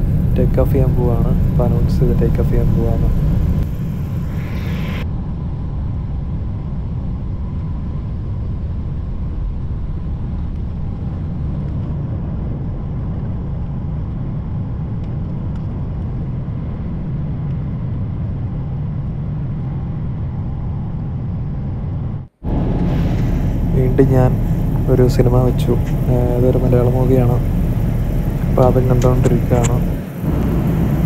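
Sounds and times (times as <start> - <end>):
jet airliner rumble in cabin: 0.0 - 31.0.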